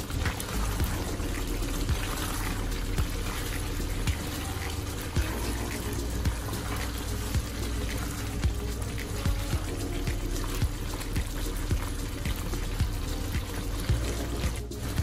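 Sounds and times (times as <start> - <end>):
spatula stirring stew: 0.0 - 15.0
stew simmering and bubbling: 0.0 - 15.0.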